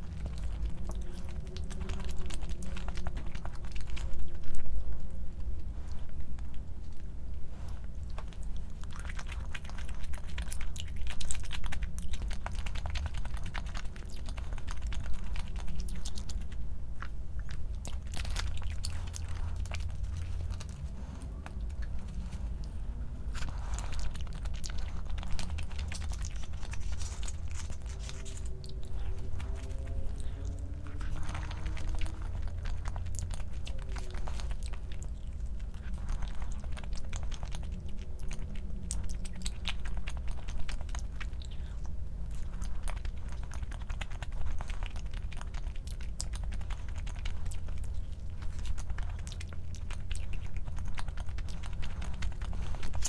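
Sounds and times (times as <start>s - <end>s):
chewing and crunching: 0.0s - 53.0s.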